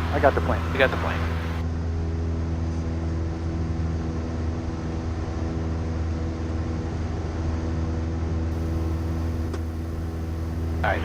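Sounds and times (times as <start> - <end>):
airplane engine and propeller droning: 0.0 - 11.0.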